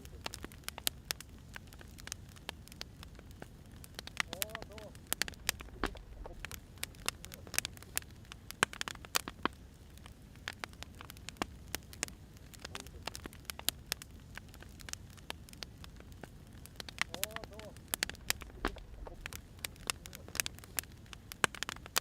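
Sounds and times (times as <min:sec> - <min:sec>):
firewood crackling and popping: 0:00.0 - 0:22.0
flames rushing: 0:00.0 - 0:22.0.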